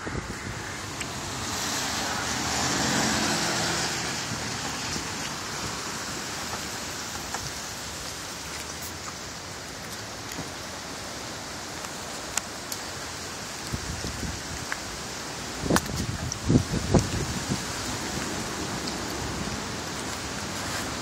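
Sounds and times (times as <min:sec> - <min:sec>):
wind-driven rain hissing: 0:00.0 - 0:21.0.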